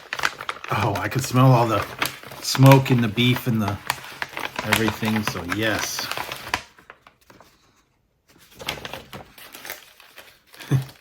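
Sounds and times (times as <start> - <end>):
packaging rustling and clicking: 0.0 - 7.6, 8.3 - 11.0.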